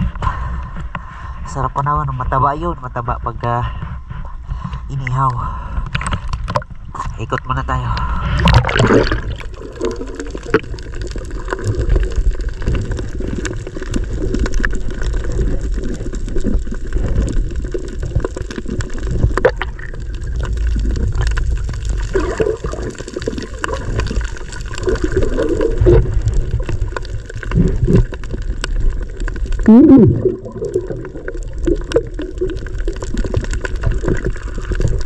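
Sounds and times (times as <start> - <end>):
steady low rumble: 0.0 - 32.1
underwater rush and gurgle: 2.2 - 35.0.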